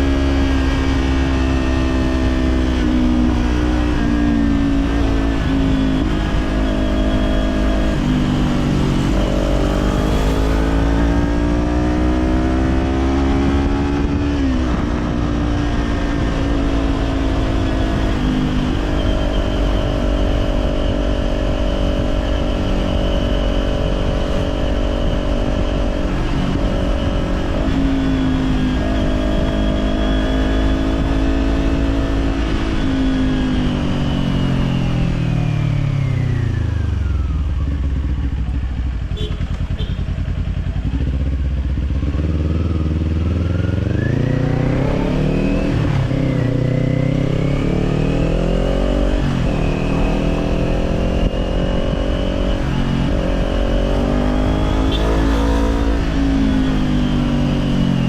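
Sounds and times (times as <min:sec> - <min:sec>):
motorcycle engine revving: 0:00.0 - 0:58.0
wind rumble on microphone: 0:00.0 - 0:58.0.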